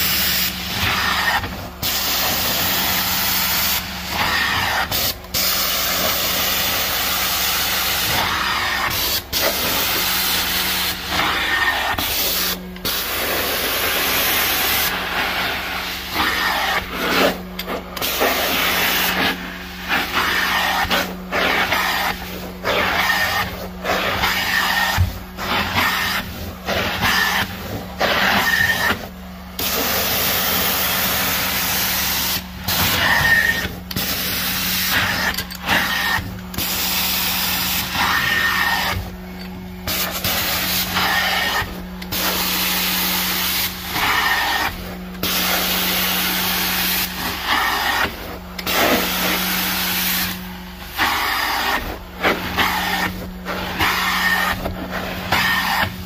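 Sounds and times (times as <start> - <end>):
carpet cleaner spray and suction hiss: 0.0 - 56.0.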